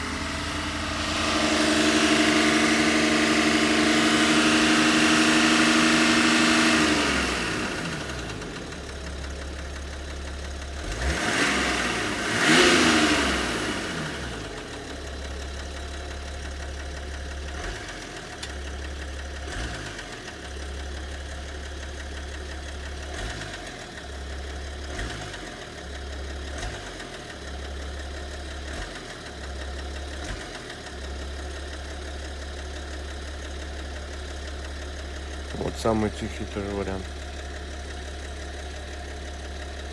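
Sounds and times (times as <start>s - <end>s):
diesel engine revving and idling: 0.0s - 39.9s
engine knock: 0.0s - 39.9s.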